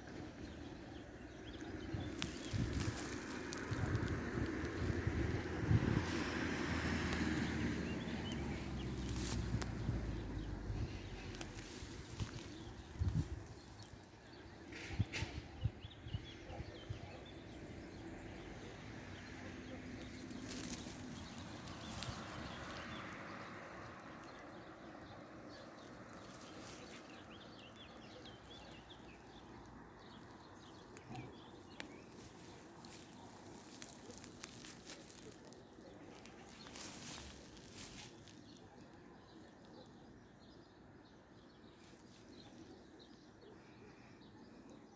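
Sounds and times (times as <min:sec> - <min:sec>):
faint outdoor ambience: 0:00.0 - 0:44.9.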